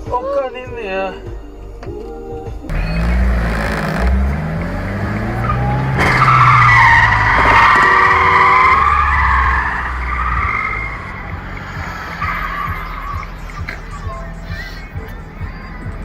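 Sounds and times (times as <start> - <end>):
car engine revving: 2.7 - 16.0
tyres squealing: 2.7 - 16.0.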